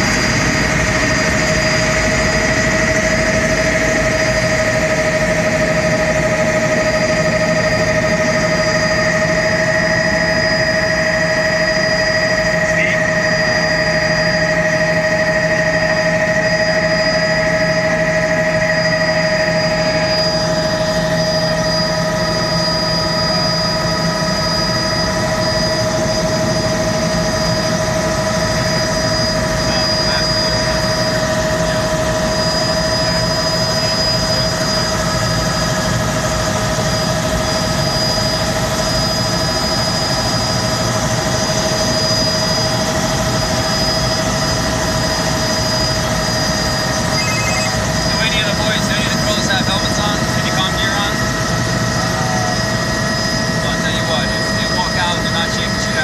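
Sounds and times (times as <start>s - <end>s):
helicopter engine and rotor drone: 0.0s - 56.0s
high-pitched whine: 0.0s - 56.0s.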